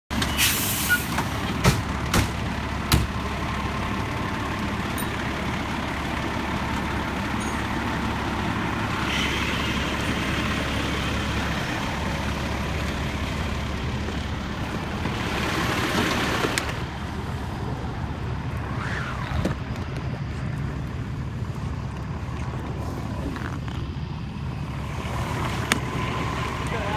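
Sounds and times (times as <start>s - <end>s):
fire engine rumbling: 0.1s - 26.9s.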